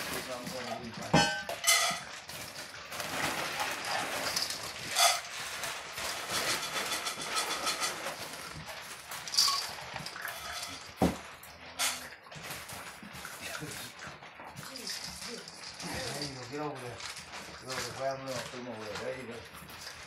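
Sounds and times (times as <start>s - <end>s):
puppies chewing: 0.0s - 20.0s
paws scrabbling on paper: 2.0s - 20.0s.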